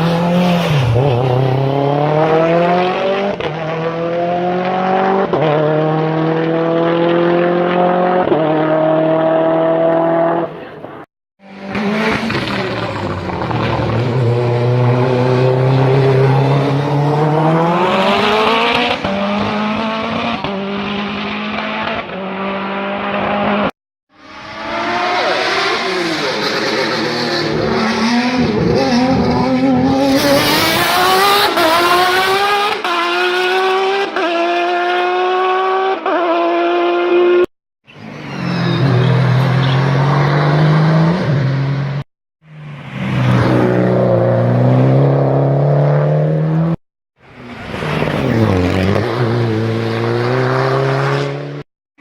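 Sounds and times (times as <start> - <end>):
race car engines revving: 0.0 - 51.7.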